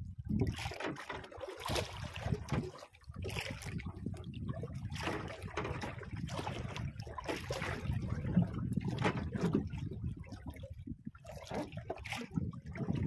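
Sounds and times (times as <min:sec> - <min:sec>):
water splashing against boat hull: 0:00.0 - 0:13.0.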